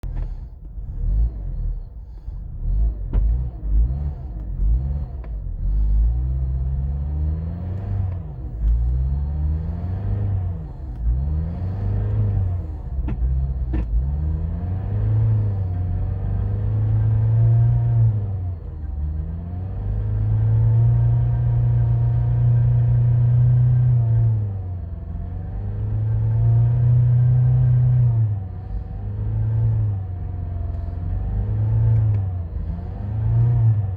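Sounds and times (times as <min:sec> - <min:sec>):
car engine revs surging: 0:00.1 - 0:33.9.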